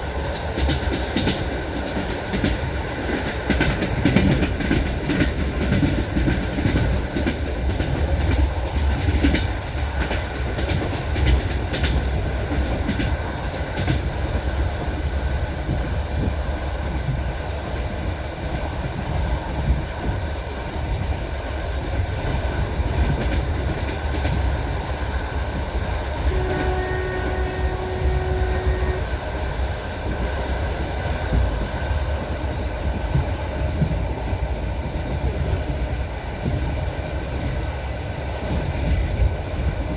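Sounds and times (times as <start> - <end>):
low train rumble: 0.0 - 39.9
train wheels clattering: 0.0 - 39.9.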